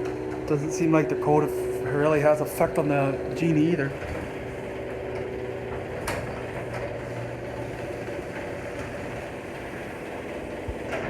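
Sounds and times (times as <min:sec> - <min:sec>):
garage door opener motor hum: 0:00.0 - 0:11.0.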